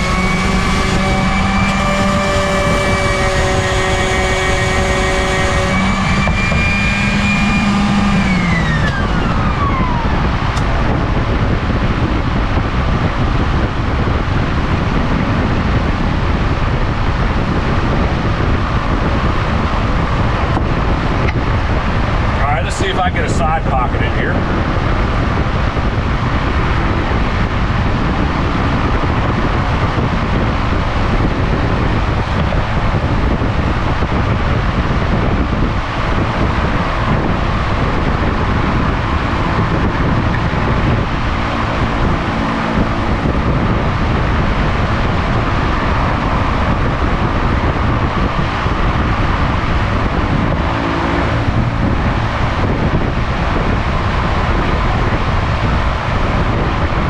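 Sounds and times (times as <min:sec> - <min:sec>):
electric fans whooshing: 0:00.0 - 0:57.0.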